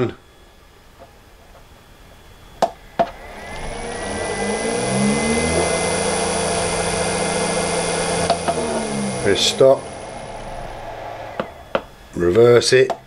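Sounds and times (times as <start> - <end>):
electric motor humming and whining: 0.0 - 12.6.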